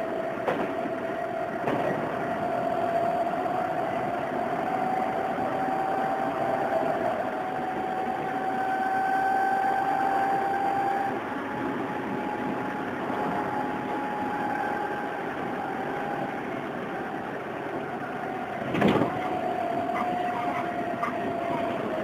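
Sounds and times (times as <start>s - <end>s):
electric train motor whine: 0.0s - 22.0s
rumbling rail noise: 0.0s - 22.0s.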